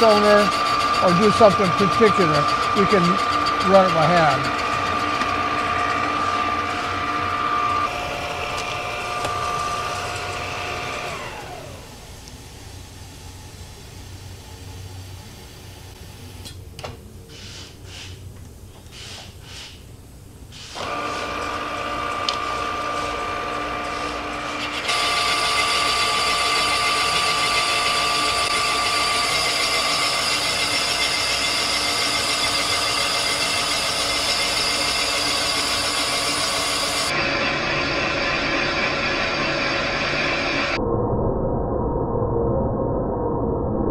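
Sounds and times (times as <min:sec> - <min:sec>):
boring machine whine: 0:00.0 - 0:16.4, 0:20.8 - 0:43.9.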